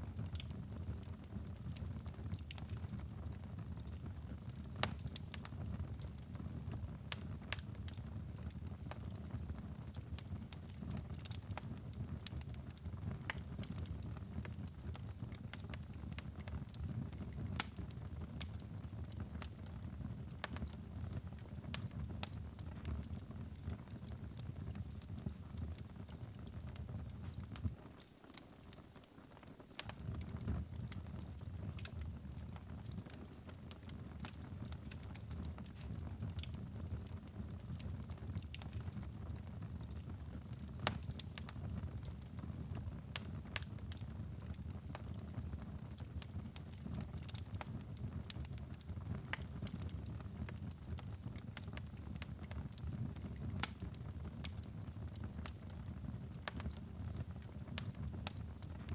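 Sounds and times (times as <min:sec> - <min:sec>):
fire rumbling in fireplace: 0:00.0 - 0:27.8, 0:29.4 - 0:58.9
burning logs crackling and popping: 0:00.0 - 0:58.9.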